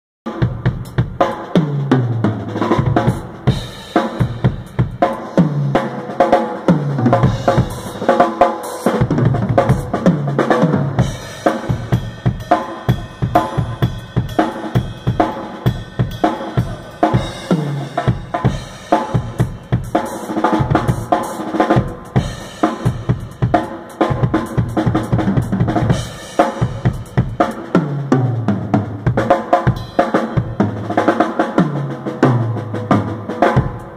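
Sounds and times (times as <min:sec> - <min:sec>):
drum kit groove: 0:00.2 - 0:33.9.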